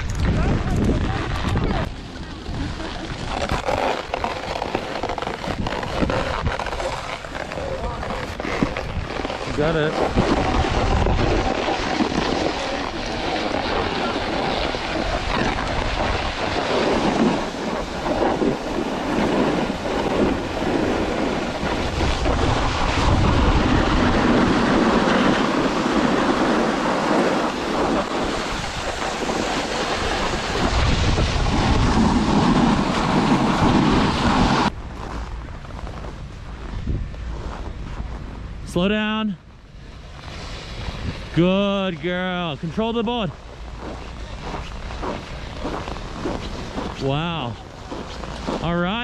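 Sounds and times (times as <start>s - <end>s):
snowboard scraping over snow: 0.0s - 49.0s
wind rushing over microphone: 0.0s - 49.0s.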